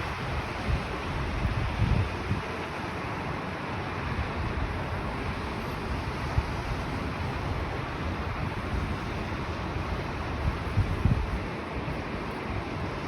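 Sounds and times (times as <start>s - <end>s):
wind buffeting microphone: 0.0s - 2.6s, 4.2s - 13.0s.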